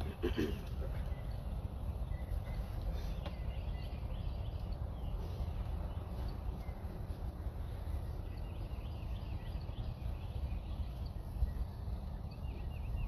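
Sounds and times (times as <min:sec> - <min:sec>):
faint birds chirping: 0:00.0 - 0:13.0
wind rumble on microphone: 0:01.0 - 0:13.0.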